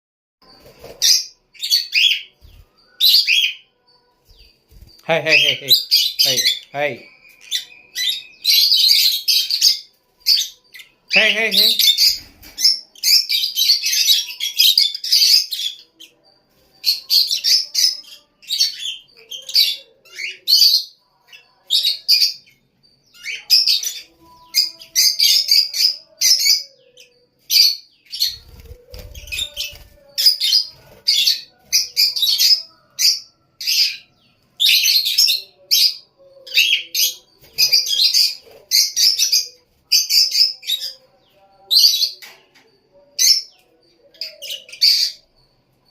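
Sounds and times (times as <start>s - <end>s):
lovebirds chirping shrilly: 0.4s - 42.2s.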